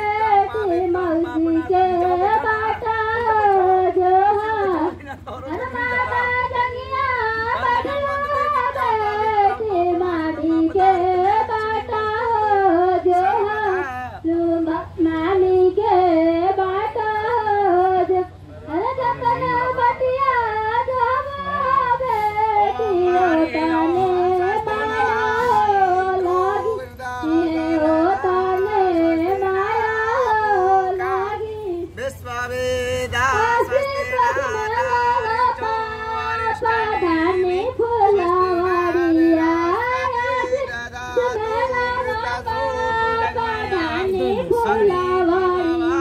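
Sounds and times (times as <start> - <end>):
women singing: 0.0 - 13.6, 14.2 - 32.0, 33.4 - 46.0.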